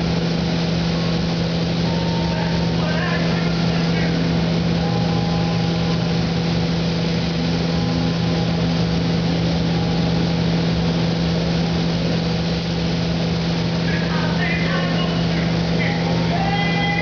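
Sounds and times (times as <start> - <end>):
spray booth fans humming: 0.0 - 17.0.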